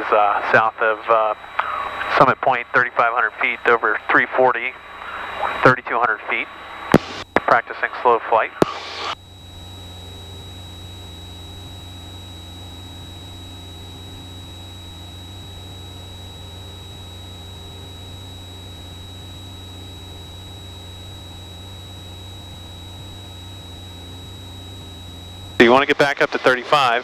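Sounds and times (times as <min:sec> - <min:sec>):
aircraft engine and propeller drone: 0:00.0 - 0:27.0
high-pitched electronic whine: 0:00.0 - 0:27.0.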